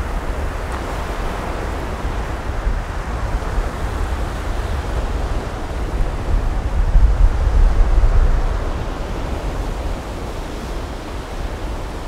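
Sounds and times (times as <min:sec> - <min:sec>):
surf waves washing on shore: 0:00.0 - 0:12.0
wind buffeting microphone: 0:00.0 - 0:12.0.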